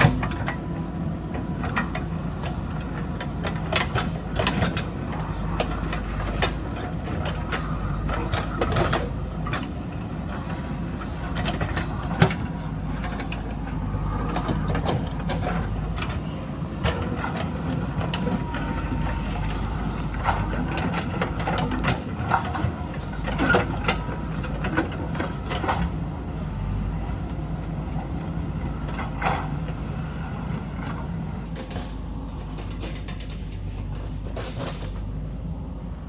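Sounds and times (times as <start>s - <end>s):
heavy diesel engine running: 0.0s - 36.0s
machine clanks and knocks: 1.3s - 35.2s.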